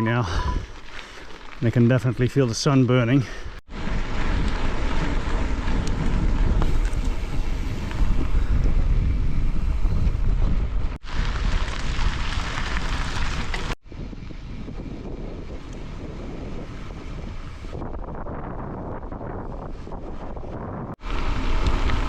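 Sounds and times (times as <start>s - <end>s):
wind buffeting microphone: 3.8s - 22.0s.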